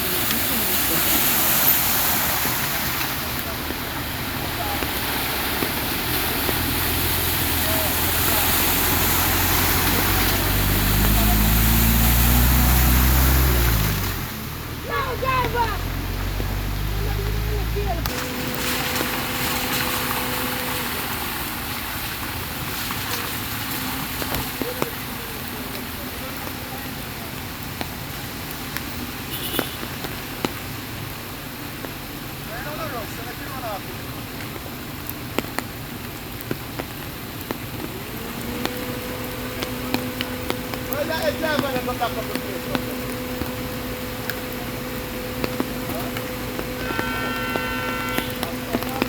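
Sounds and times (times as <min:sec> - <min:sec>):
vehicle engine humming: 0:00.0 - 0:32.8, 0:34.1 - 0:49.0
heavy rain and floodwater rushing: 0:00.0 - 0:49.0.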